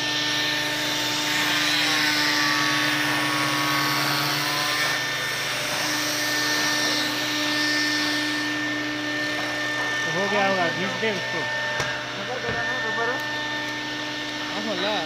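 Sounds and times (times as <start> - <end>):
electric disc sander whine: 0.0 - 15.0.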